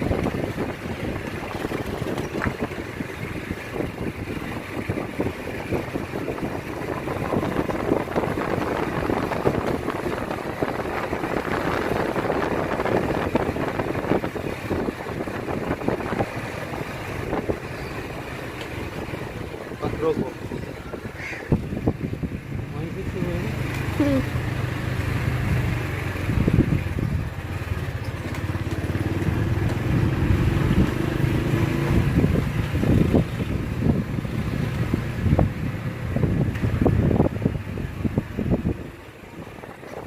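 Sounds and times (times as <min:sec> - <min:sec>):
moving motorbike: 0:00.0 - 0:40.0
wind buffeting microphone: 0:00.0 - 0:40.0.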